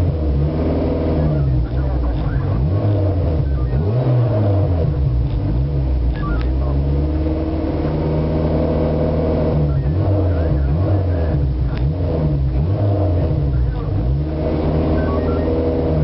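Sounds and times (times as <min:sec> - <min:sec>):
race car engine revving and idling: 0:00.0 - 0:16.0.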